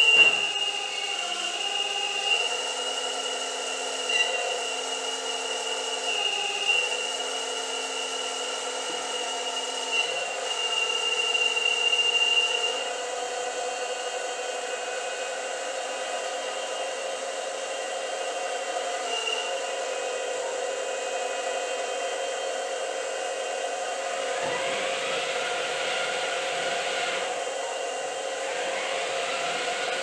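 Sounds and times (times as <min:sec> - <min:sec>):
hydraulic motor and pump whine: 0:00.0 - 0:30.0.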